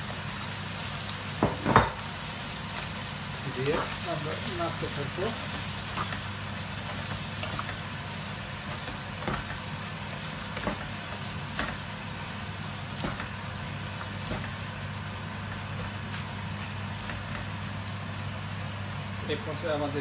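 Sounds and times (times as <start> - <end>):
curry sizzling in a frying pan: 0.0 - 20.0.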